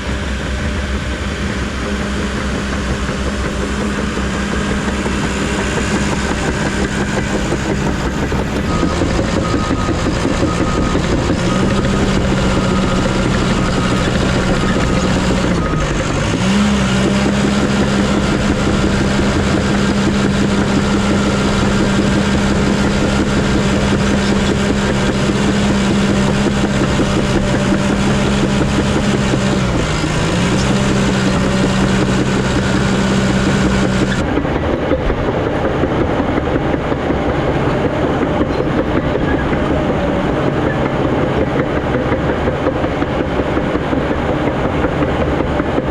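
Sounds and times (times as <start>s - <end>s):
heavy machine diesel engine: 0.0s - 45.9s.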